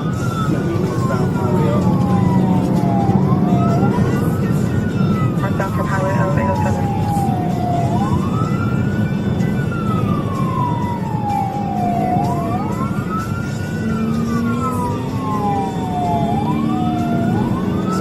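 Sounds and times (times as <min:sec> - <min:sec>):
police siren wailing: 0:00.0 - 0:18.0
road and engine rumble: 0:00.0 - 0:18.0.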